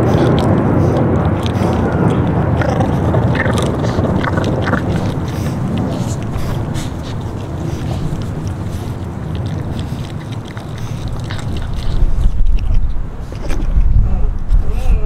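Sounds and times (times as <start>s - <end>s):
puppy chewing on bone: 0.0s - 14.0s
low steady rumble: 0.0s - 15.0s.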